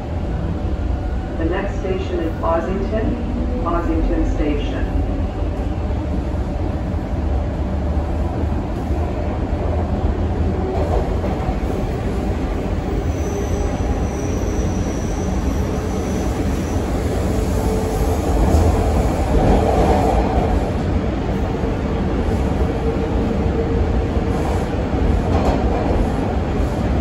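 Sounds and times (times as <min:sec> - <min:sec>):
subway train rumbling on track: 0:00.0 - 0:27.0.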